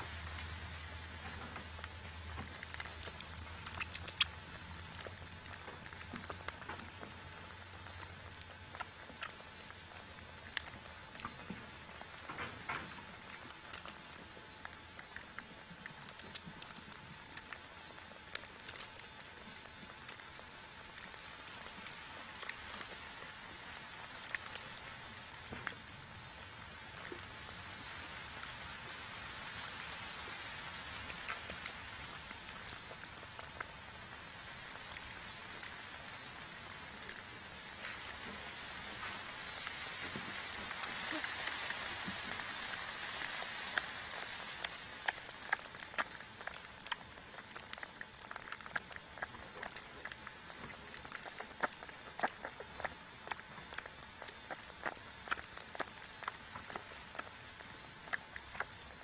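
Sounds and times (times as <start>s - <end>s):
rabbit scratching at soil: 0.0s - 59.0s.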